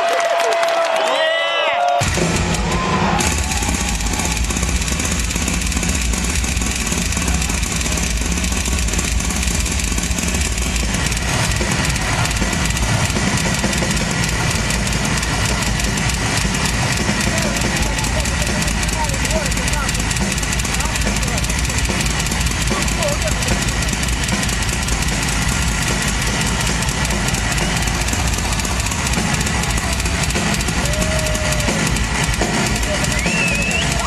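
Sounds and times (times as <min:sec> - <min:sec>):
crashing cymbals: 0:02.0 - 0:34.0
fast drum kit playing: 0:02.0 - 0:34.0.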